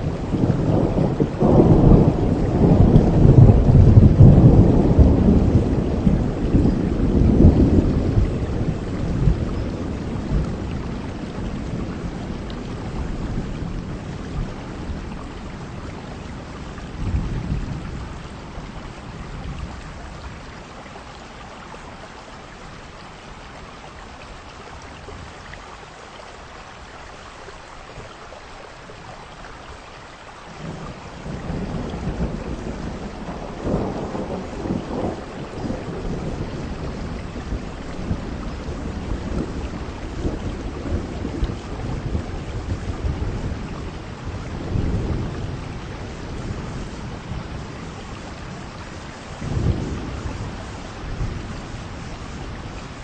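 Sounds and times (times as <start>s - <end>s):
thunder rumbling: 0.0s - 20.6s, 30.6s - 53.0s
heavy rain falling: 0.0s - 53.0s.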